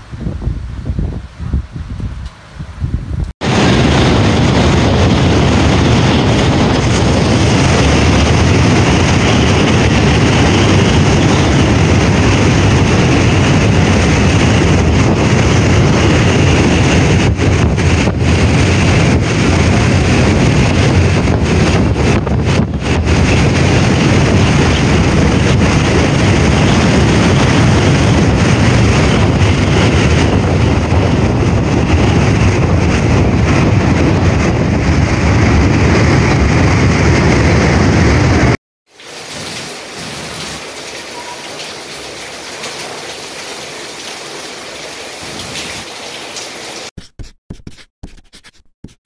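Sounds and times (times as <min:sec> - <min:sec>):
wind buffeting microphone: 0:00.0 - 0:38.6, 0:45.1 - 0:45.9
typhoon wind: 0:00.0 - 0:46.9
driving rain: 0:03.4 - 0:46.9.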